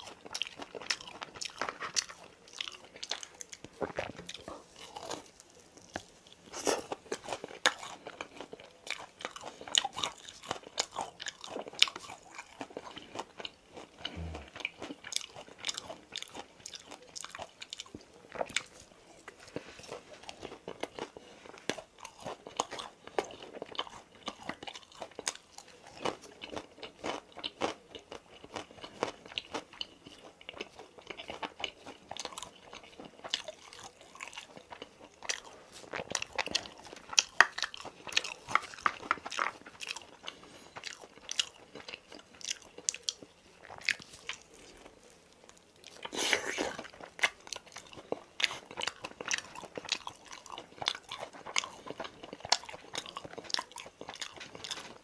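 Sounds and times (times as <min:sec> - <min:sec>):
crisp crunches of chewing: 0:00.0 - 0:55.0.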